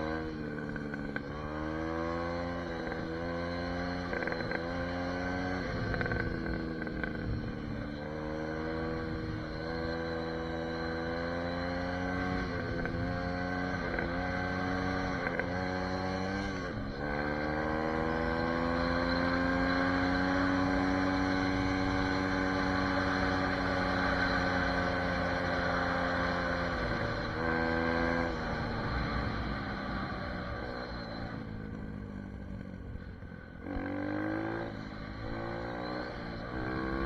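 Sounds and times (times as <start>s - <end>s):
dirt bike engine revving: 0.0s - 31.3s, 33.6s - 37.0s.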